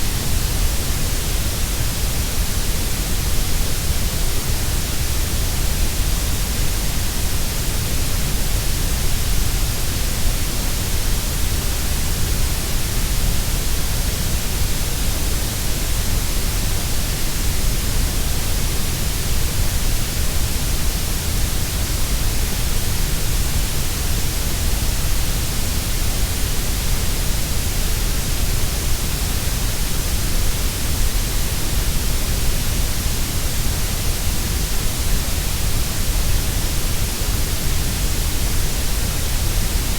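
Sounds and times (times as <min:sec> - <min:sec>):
steady grey noise hiss: 0:00.0 - 0:39.9.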